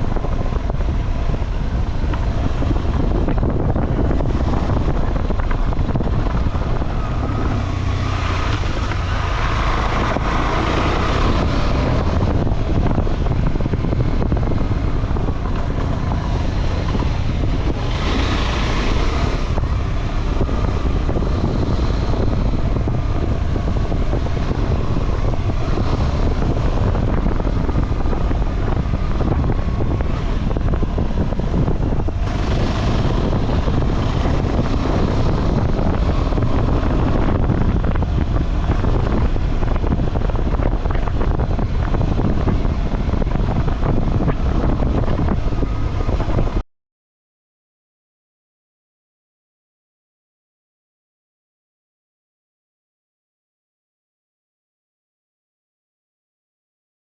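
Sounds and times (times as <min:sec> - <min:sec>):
motorcycle engine running: 0:00.0 - 0:46.6
wind buffeting microphone: 0:00.0 - 0:46.6.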